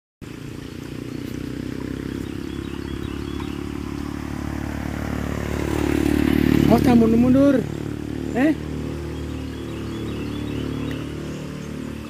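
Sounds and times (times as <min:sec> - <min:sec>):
motorcycle engine approaching: 0:00.2 - 0:12.0.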